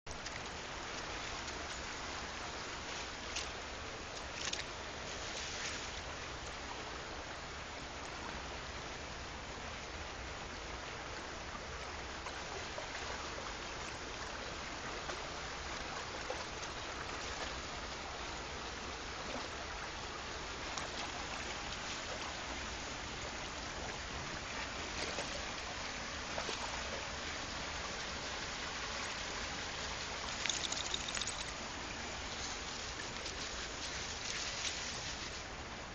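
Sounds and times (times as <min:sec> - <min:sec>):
stream running over stones: 0:00.1 - 0:35.9.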